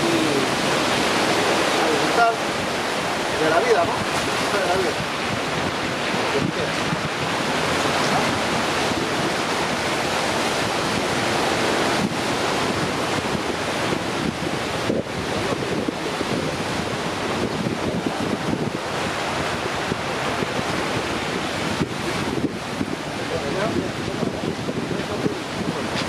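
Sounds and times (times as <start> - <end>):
ocean surf on shore: 0.0 - 26.0
wind buffeting microphone: 0.0 - 26.0.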